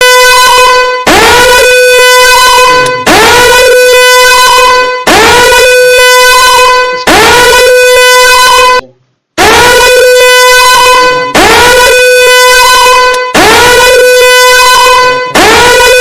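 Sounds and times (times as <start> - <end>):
electronic alarm tone: 0.0 - 8.8, 9.4 - 16.0.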